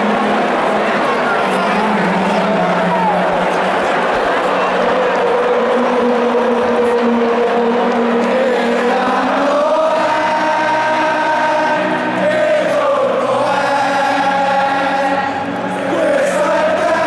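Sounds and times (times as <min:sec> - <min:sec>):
stadium crowd singing: 0:00.0 - 0:17.0.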